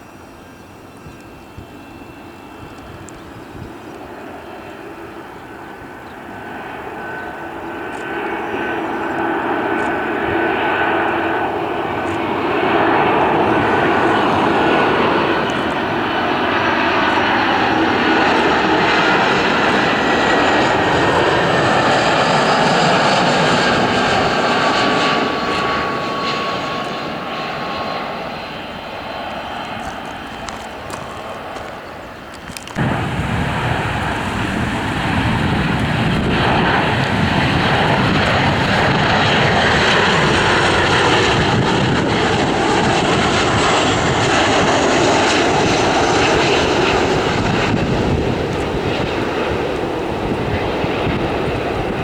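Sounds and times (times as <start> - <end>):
jet airliner passing: 0.0 - 52.0.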